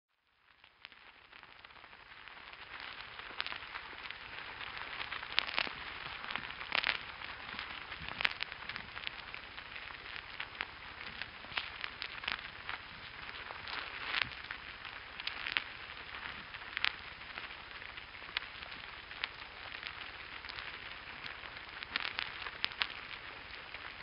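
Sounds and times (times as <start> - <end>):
ants crawling crackle: 0.1 - 24.0.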